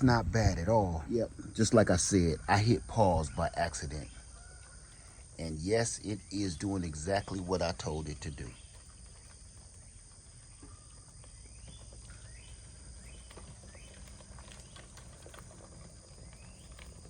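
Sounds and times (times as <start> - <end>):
bird chirping: 0.0 - 17.0
high insect drone: 0.0 - 17.0.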